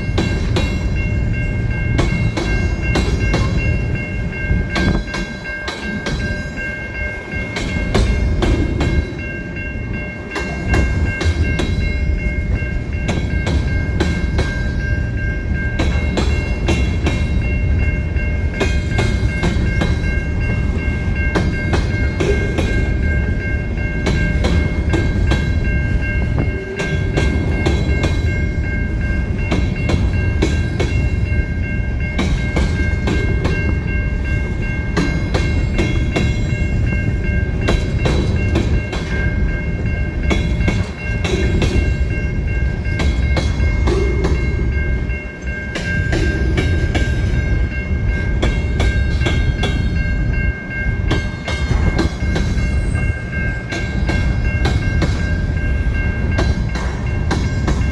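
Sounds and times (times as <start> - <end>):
heavy rumble of train wheels: 0.0 - 57.9.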